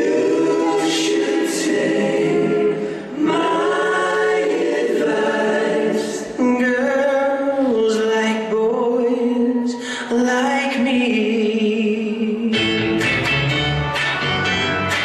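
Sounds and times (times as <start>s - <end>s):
group of voices singing: 0.0s - 12.3s.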